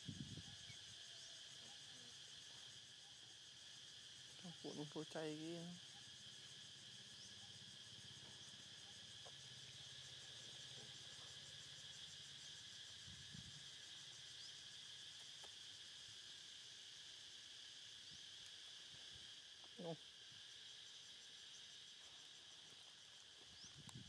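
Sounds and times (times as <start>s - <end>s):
insect chorus buzzing: 0.0s - 24.0s.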